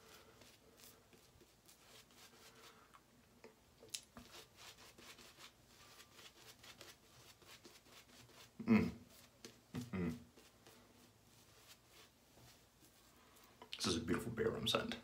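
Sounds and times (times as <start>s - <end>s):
shaving brush swishing lather: 0.0s - 2.8s, 4.2s - 13.5s.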